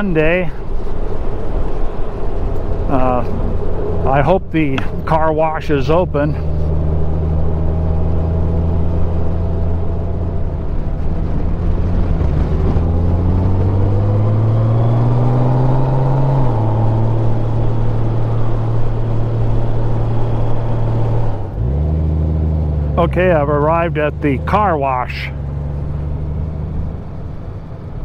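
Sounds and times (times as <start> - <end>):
motorcycle engine accelerating: 1.6 - 28.0.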